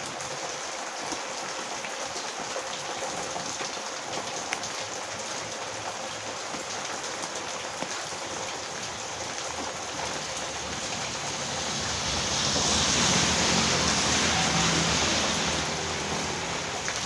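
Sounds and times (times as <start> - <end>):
heavy rain on road: 0.0 - 17.0.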